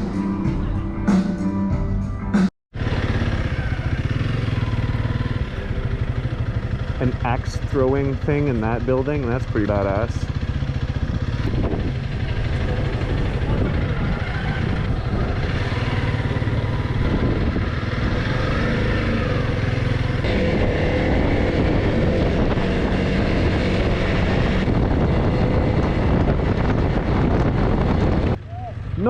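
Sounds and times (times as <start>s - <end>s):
motorcycle engine running: 2.7s - 29.0s.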